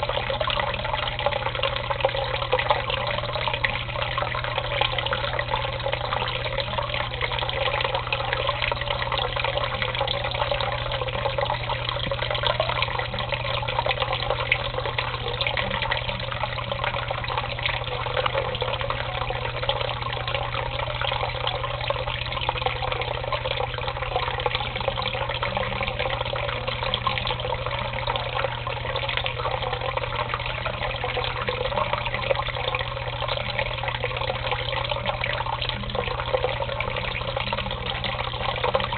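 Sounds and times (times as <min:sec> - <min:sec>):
tap water running into basin: 0:00.0 - 0:38.9.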